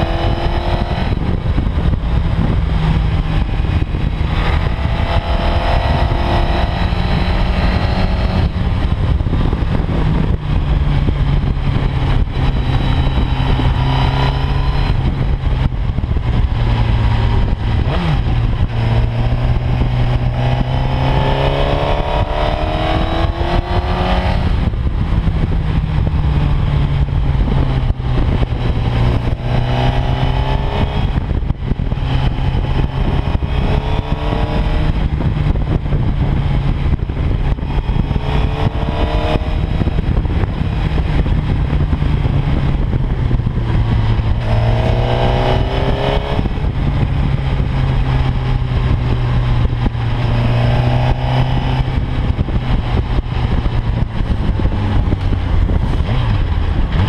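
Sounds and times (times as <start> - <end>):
motorcycle engine accelerating: 0.0 - 57.0
wind rushing on microphone: 0.0 - 57.0.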